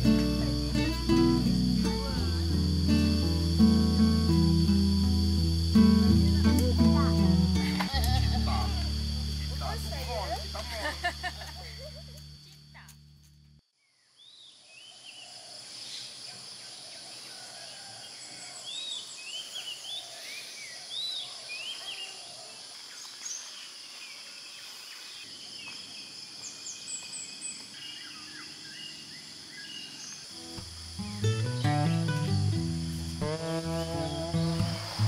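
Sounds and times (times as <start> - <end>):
insect drone: 0.0 - 35.0.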